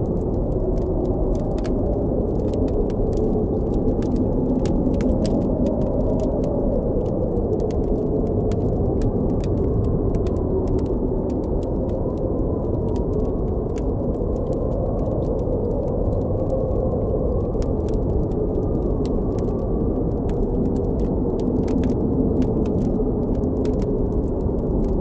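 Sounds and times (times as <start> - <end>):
blizzard wind howling: 0.0 - 25.0
campfire crackling and popping: 0.0 - 25.0.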